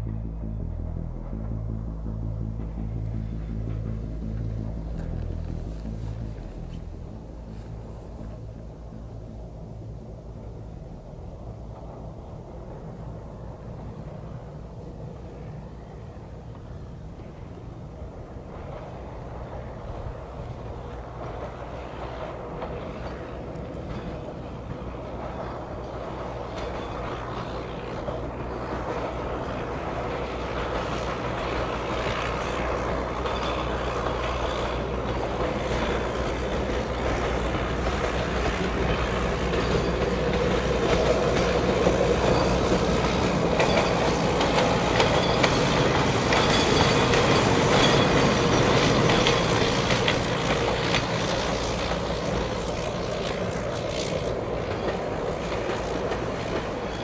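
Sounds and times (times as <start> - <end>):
rail bus motor humming: 0.0 - 57.0
wheels rumbling and clicking on rails: 0.0 - 57.0.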